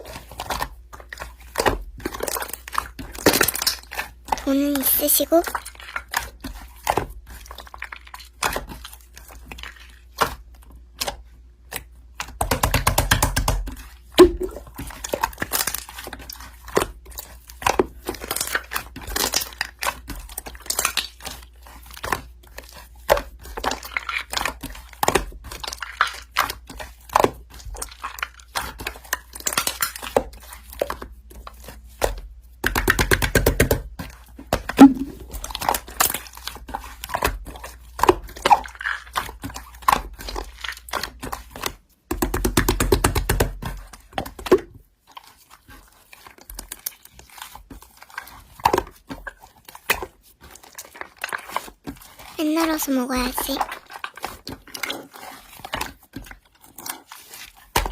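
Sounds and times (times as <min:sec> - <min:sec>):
slime squishing with sticky pops: 0:00.0 - 0:57.9.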